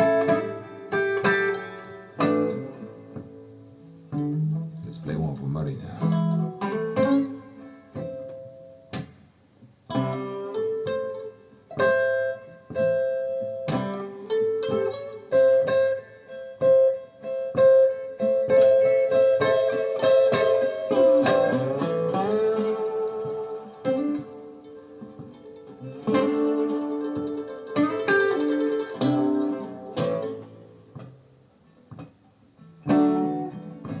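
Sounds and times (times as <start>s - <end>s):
acoustic blues guitar picking: 0.0s - 34.0s.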